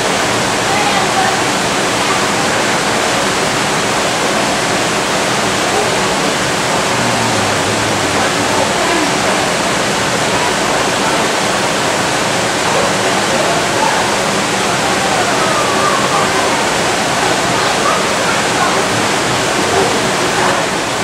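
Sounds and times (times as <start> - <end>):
faint voices: 0.0 - 21.0
water feature running: 0.0 - 21.0.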